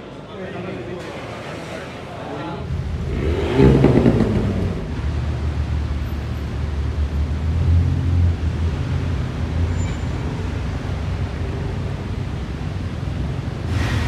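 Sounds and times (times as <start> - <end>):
car engine exhaust rumble: 2.6 - 14.0.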